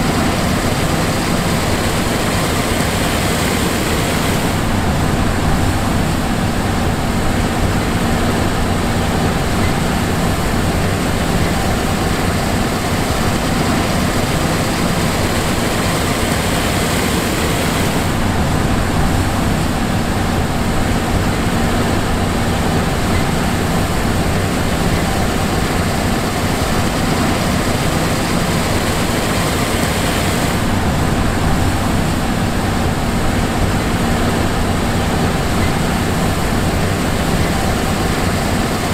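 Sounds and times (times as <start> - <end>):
combine diesel engine drone: 0.0 - 38.9
machinery hum: 0.0 - 38.9.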